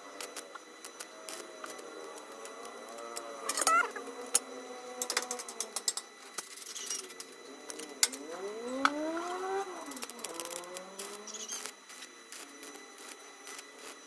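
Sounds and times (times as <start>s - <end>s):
pitched drone: 0.0s - 14.0s
welding arc crackling: 0.0s - 14.0s.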